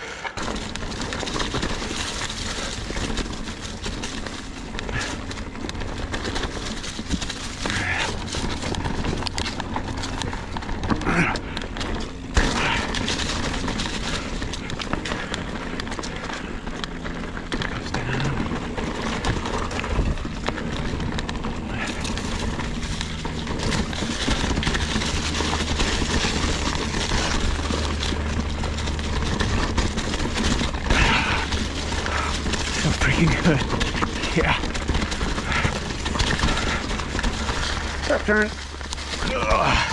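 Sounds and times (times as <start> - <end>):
bike rattling and clattering: 0.0 - 39.9
steady low rumble: 0.3 - 39.9
tyres crunching on rocks: 0.4 - 39.9.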